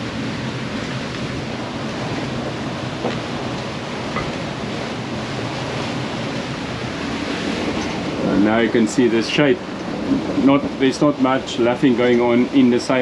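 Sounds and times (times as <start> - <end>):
strong wind rushing: 0.0 - 12.8
waves: 0.0 - 13.0.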